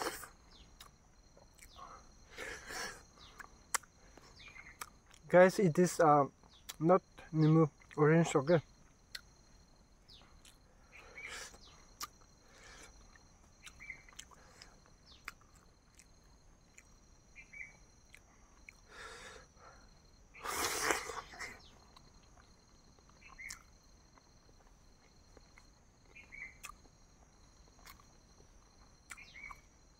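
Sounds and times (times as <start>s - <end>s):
quiet chewing: 0.0s - 5.4s, 6.4s - 6.8s, 7.7s - 29.8s
crickets chirring: 0.0s - 29.9s.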